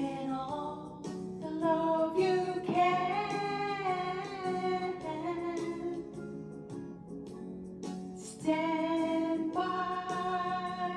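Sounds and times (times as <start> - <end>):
woman singing slow song: 0.0 - 6.2, 8.2 - 10.9
backing track music: 0.0 - 10.9.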